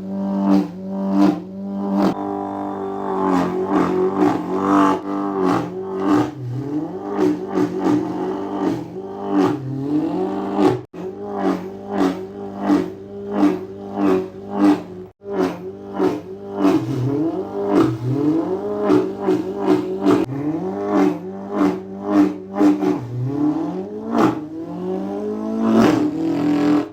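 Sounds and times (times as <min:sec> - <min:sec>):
person imitating engine revving: 0:00.0 - 0:26.9.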